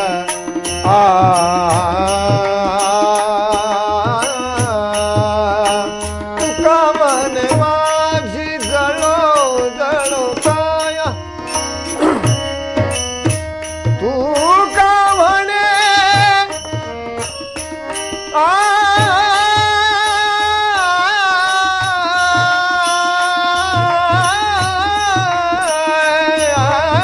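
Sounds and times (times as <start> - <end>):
man singing: 0.0 - 12.8, 13.8 - 27.0
harmonium chords: 0.0 - 27.0
tabla strokes: 0.0 - 27.0.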